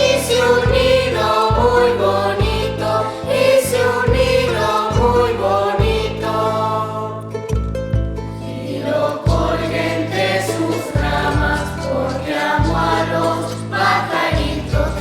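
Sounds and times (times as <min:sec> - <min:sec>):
children's choir singing: 0:00.0 - 0:07.4, 0:08.5 - 0:15.0
instrumental accompaniment: 0:00.0 - 0:15.0
low bass notes: 0:00.0 - 0:15.0.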